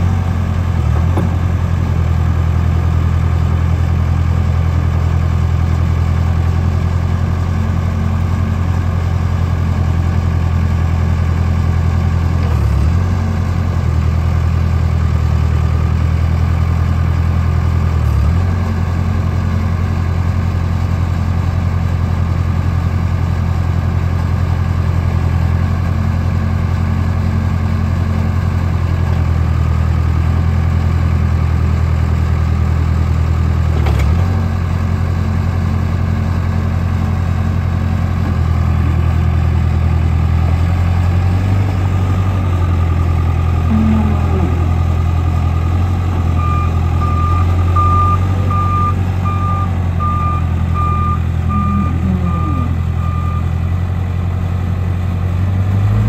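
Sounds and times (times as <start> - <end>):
diesel engine idling: 0.0 - 33.7, 34.3 - 56.0.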